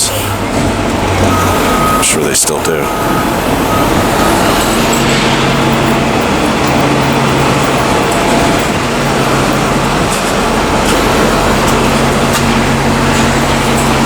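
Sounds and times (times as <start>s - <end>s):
low engine hum: 0.0s - 14.0s
vehicle traffic noise: 0.0s - 14.0s.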